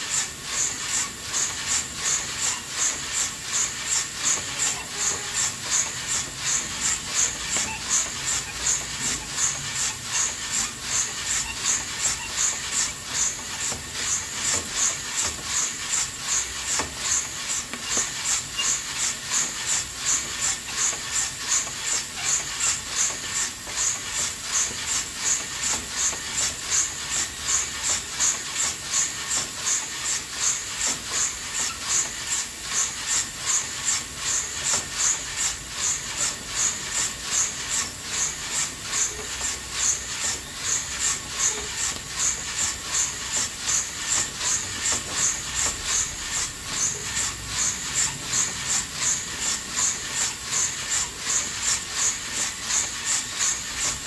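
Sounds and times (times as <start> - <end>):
coffee beans swishing in roaster: 0.0 - 54.0.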